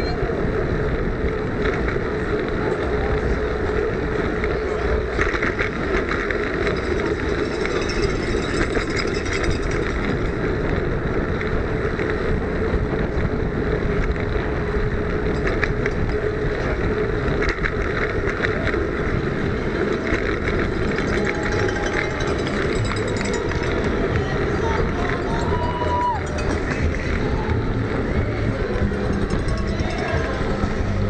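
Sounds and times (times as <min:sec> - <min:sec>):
constant hum: 0:00.0 - 0:31.0
wind and tyre rush: 0:00.0 - 0:31.0
bike rattling: 0:00.4 - 0:31.0.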